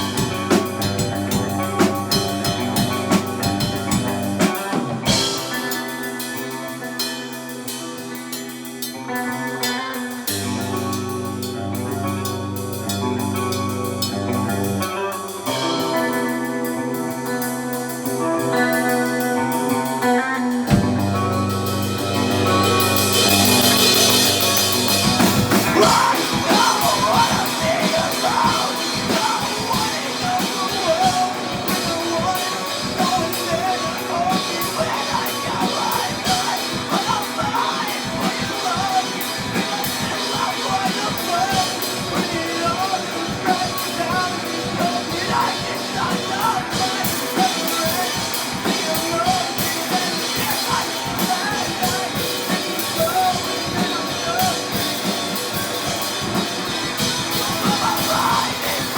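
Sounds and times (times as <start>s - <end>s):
bass and guitar chords: 0.0s - 58.9s
drum kit: 0.0s - 58.9s
wavering lead guitar line: 0.0s - 58.9s.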